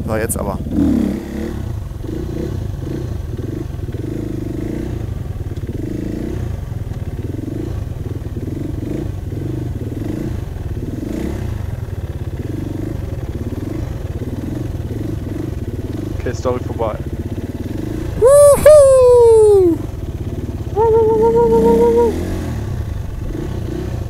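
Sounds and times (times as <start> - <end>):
motorcycle engine at steady revs: 0.0 - 18.2, 19.8 - 24.0.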